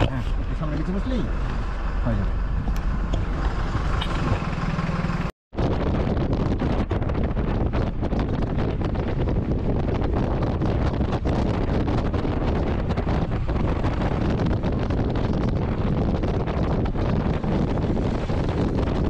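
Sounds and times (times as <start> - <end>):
road and engine rumble: 0.0 - 19.0
wind buffeting microphone: 0.0 - 19.0.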